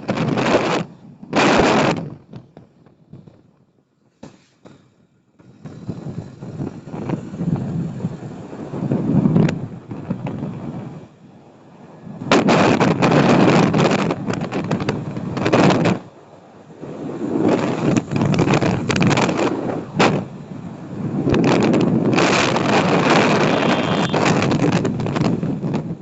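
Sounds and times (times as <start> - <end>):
sharp wind pops: 0.0 - 3.4, 4.2 - 11.1, 12.2 - 16.1, 16.9 - 26.0
wind buffeting microphone: 0.0 - 3.6, 4.8 - 26.0.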